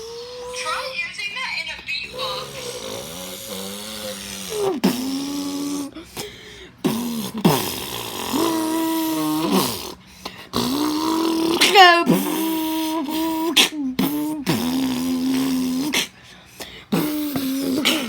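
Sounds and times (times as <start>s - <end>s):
person beatboxing buzzing tones: 2.1s - 18.0s.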